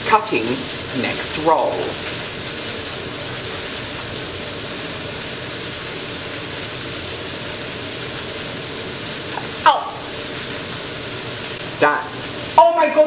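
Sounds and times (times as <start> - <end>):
burgers sizzling in a pan: 0.0 - 13.0.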